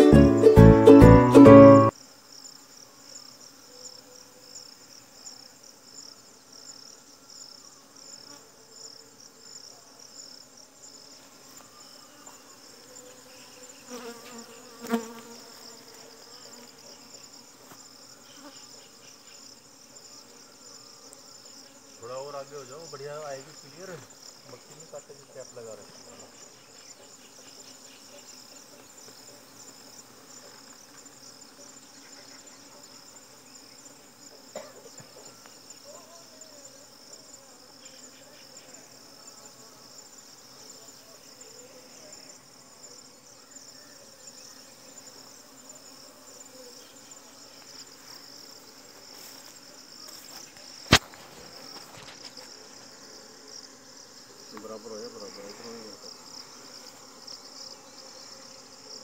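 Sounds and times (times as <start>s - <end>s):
bees buzzing: 0.0s - 35.8s, 36.6s - 59.0s.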